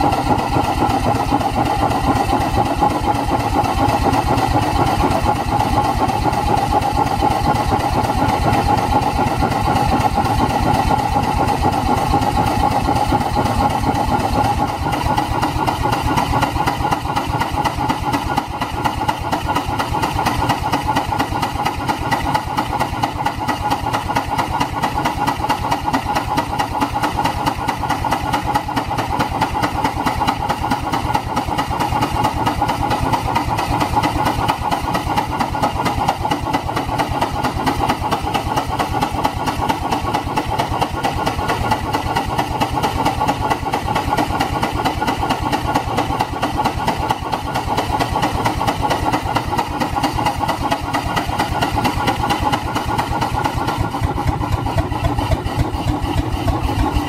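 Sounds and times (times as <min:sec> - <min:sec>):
steam engine exhaust beats: 0:00.0 - 0:57.0.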